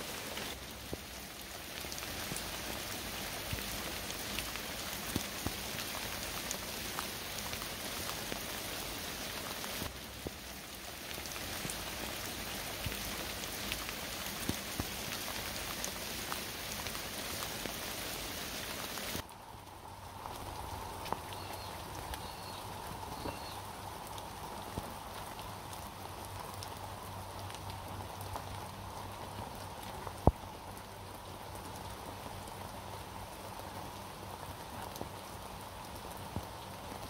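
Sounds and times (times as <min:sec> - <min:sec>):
raindrops ticking: 0:00.0 - 0:08.6, 0:09.7 - 0:32.9
steady rain falling: 0:00.0 - 0:37.0.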